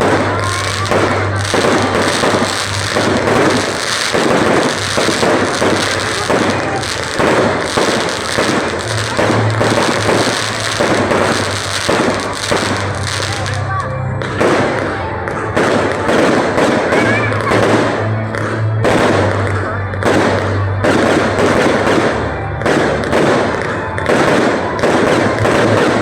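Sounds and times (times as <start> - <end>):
fireworks cracking and banging: 0.0 - 26.0
music playing: 0.0 - 26.0.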